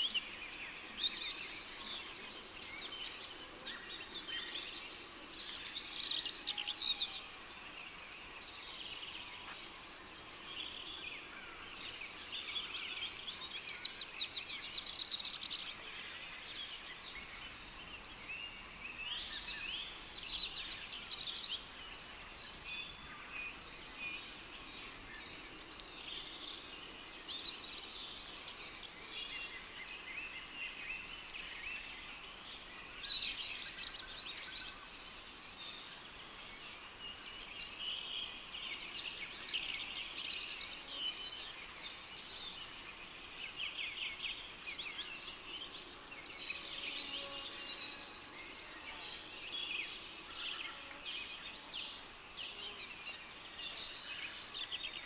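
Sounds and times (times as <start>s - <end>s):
cricket chirping: 7.2s - 54.8s.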